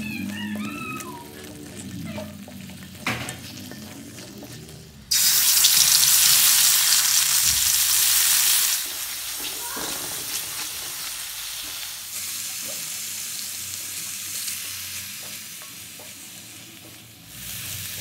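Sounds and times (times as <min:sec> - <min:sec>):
paste sizzling in hot oil: 0:02.6 - 0:18.0.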